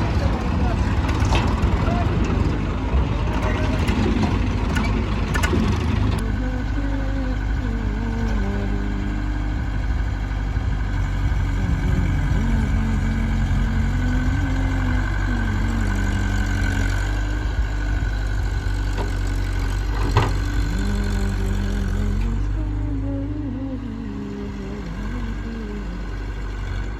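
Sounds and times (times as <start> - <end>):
heavy diesel engine running: 0.0 - 26.9
high whine with shifting tones: 0.0 - 26.9.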